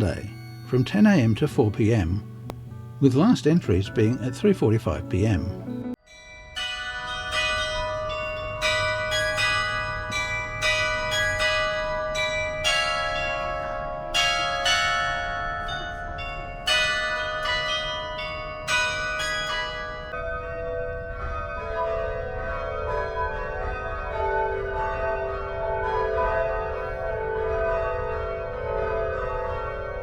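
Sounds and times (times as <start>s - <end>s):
tower bells change ringing: 0.0s - 30.0s.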